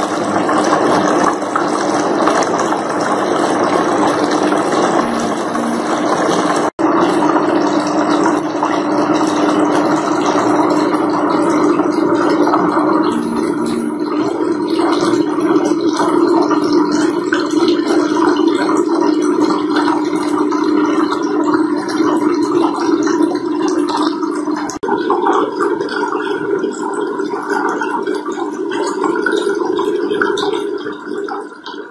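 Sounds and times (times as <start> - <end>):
fountain water splashing: 0.0 - 31.4.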